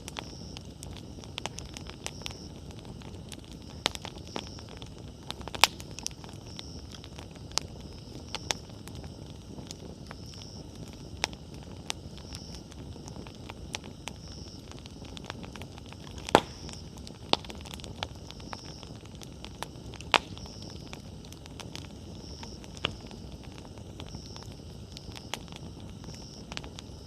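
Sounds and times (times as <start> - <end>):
campfire crackling and popping: 0.0 - 27.0
low steady flame noise: 0.0 - 27.0.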